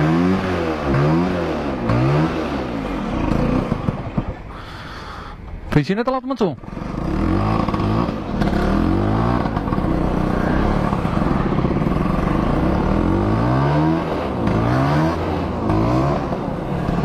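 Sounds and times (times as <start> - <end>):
two-stroke motorcycle engine revving: 0.0 - 4.5, 6.6 - 17.0.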